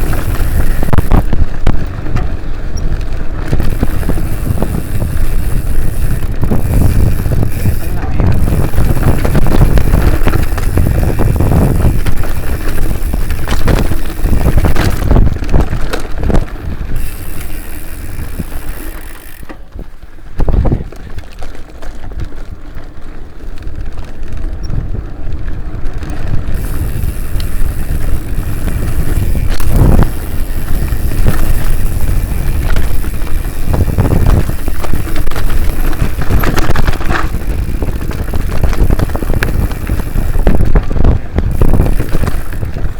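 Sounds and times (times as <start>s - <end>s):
wind on microphone: 0.0s - 21.2s, 23.6s - 42.9s
bike clattering over rough ground: 0.0s - 42.9s.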